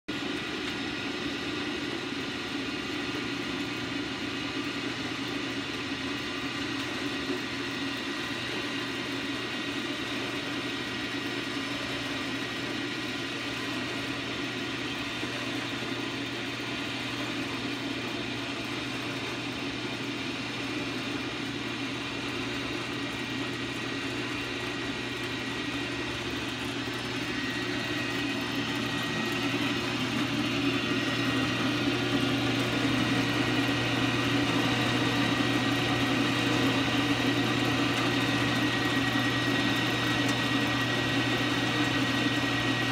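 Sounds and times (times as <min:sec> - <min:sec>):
band saw motor hum: 0:00.1 - 0:42.9.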